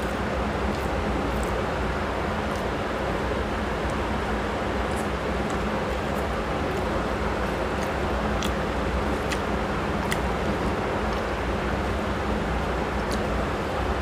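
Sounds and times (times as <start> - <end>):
wet eating clicks: 0.0 - 14.0.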